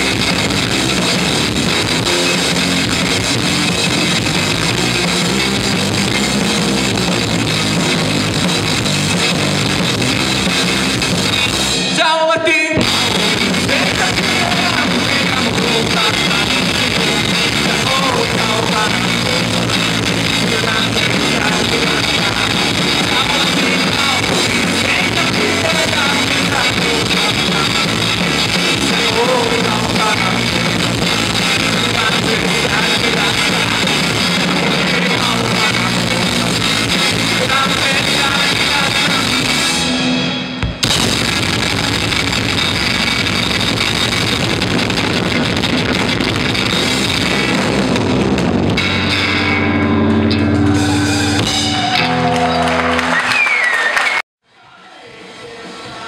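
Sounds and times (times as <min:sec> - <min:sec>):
rock band playing loud: 0:00.0 - 0:54.2.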